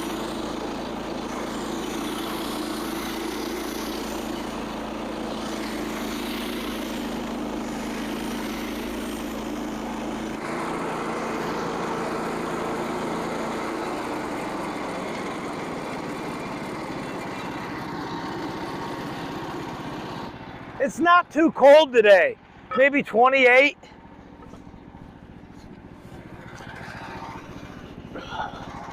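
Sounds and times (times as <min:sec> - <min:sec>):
bandsaw sawmill engine running: 0:00.0 - 0:28.9.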